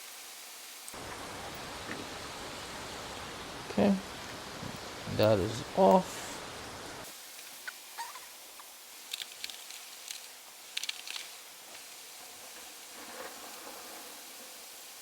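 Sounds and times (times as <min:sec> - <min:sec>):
rain pattering: 0:00.7 - 0:15.0.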